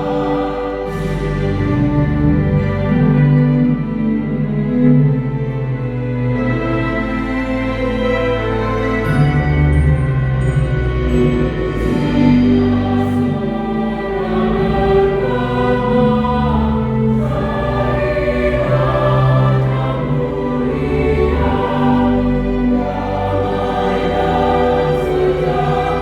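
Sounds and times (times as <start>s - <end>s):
church choir singing: 0.0s - 26.0s.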